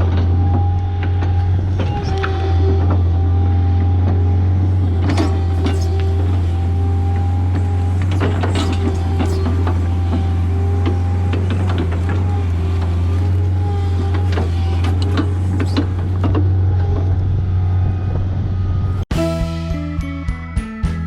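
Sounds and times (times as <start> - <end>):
excavator engine running: 0.0 - 19.5
hydraulic whine: 0.0 - 19.7.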